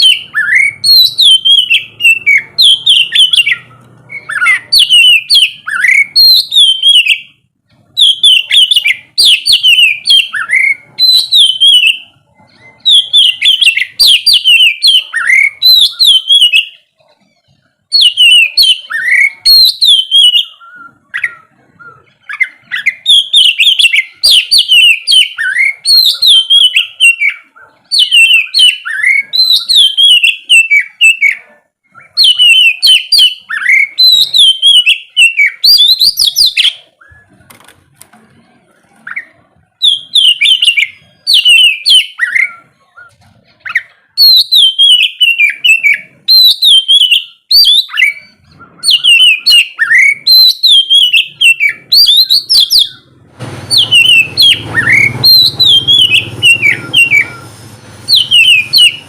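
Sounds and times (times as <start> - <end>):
songbird whistling and chattering: 0.0 - 38.1, 39.0 - 59.0.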